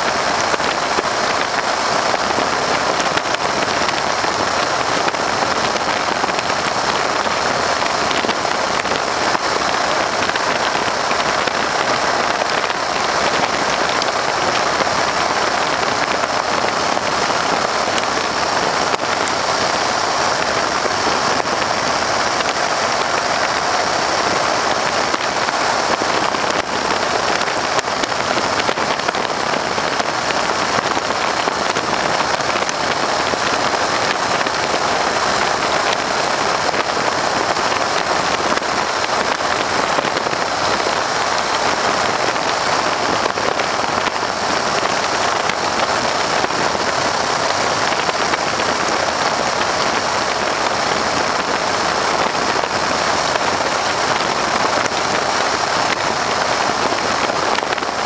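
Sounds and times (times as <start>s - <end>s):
slipstream wind and engine roar: 0.0s - 58.0s.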